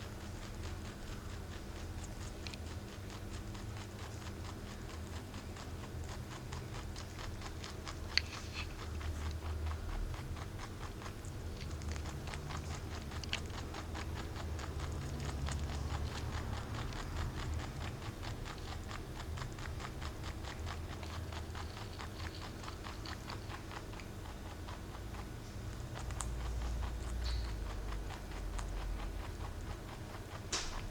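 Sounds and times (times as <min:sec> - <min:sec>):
rabbit chewing: 0:00.0 - 0:30.9.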